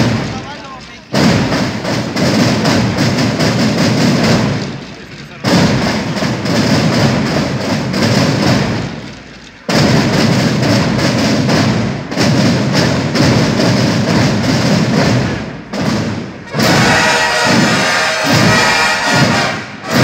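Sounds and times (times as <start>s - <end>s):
marching snare and bass drums: 0.0s - 20.0s.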